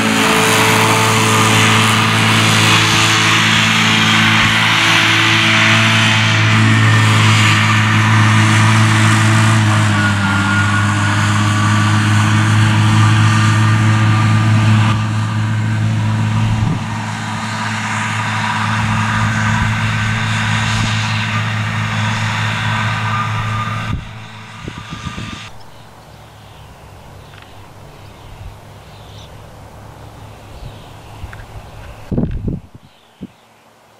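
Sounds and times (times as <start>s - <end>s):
tractor diesel engine under load: 0.0s - 32.8s.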